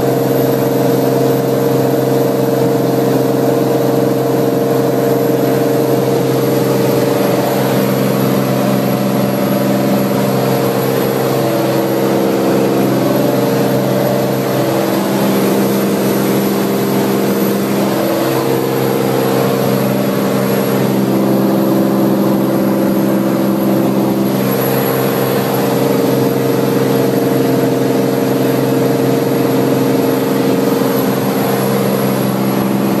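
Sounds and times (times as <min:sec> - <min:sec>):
propeller plane engine droning: 0:00.0 - 0:33.0.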